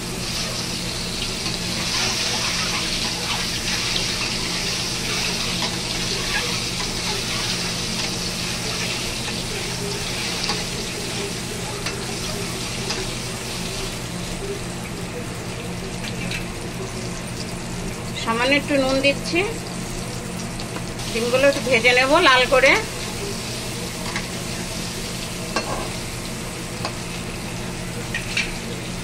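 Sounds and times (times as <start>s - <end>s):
eggs sizzling in hot oil: 0.0s - 29.0s.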